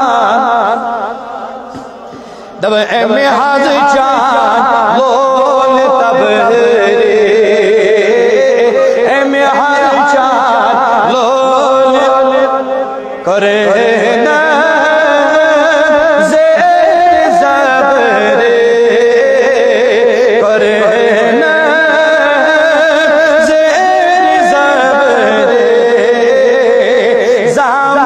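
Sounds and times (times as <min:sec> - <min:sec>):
man singing devotional poem: 0:00.0 - 0:28.0.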